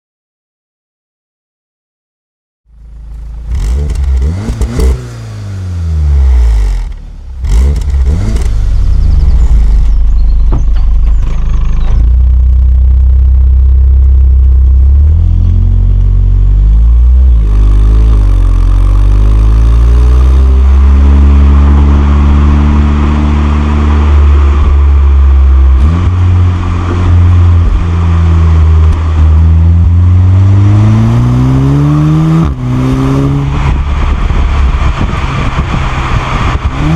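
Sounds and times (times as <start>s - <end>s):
car engine revving: 2.7s - 36.9s.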